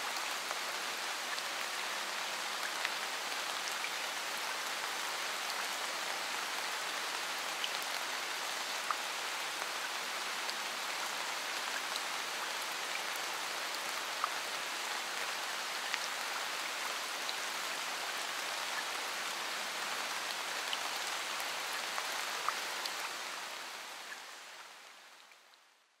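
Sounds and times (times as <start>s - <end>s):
rain-like hiss: 0.0s - 26.0s.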